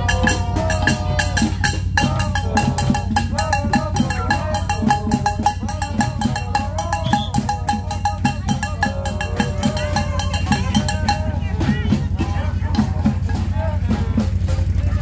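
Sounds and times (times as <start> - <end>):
marching band melody: 0.0 - 15.0
tin-can drums fast beat: 0.0 - 15.0.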